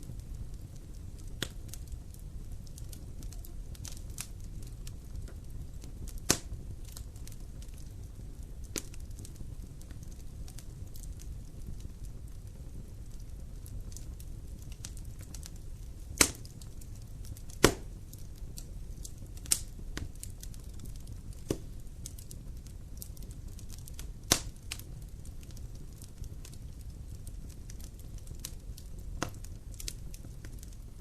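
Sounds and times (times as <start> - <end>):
fire in fireplace crackling: 0.0 - 31.0.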